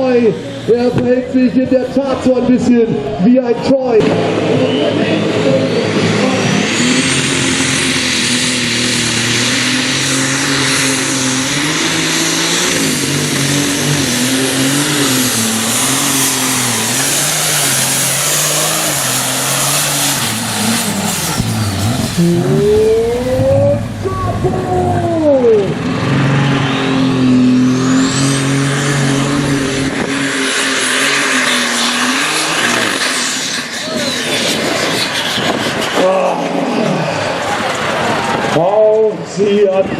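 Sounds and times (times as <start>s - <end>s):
high turbo whine: 0.0s - 39.9s
tractor engine running flat out: 3.9s - 39.9s.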